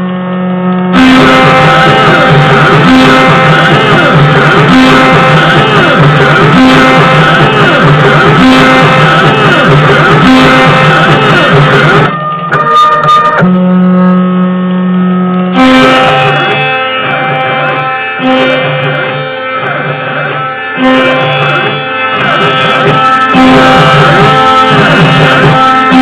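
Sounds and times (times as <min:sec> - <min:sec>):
instrumental melody over low beat: 0:00.0 - 0:26.0.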